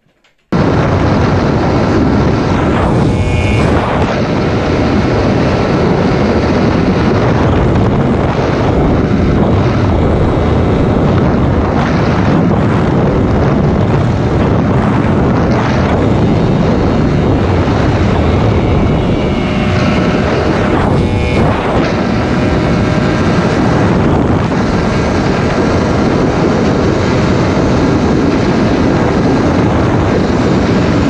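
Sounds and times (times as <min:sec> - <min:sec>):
motorcycle engine running: 0:00.0 - 0:31.0
wind rushing on microphone: 0:00.5 - 0:31.0.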